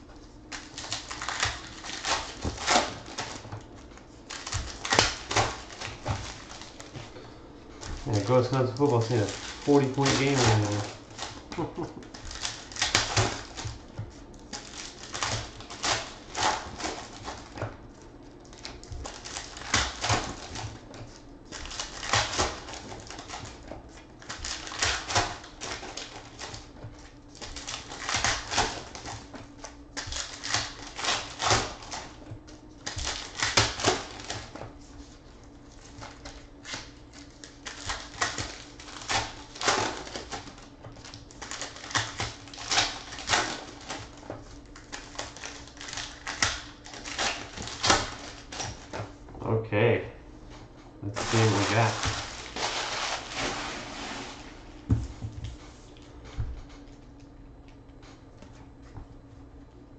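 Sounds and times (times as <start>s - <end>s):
foil wrappers crinkling and tearing: 0.0s - 49.0s, 51.0s - 54.9s.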